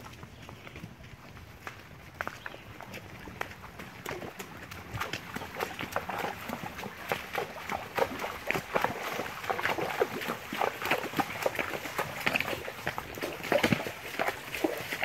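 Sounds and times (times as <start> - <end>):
hooves clopping on stone: 0.0 - 15.0
hooves splashing in water: 0.0 - 15.0.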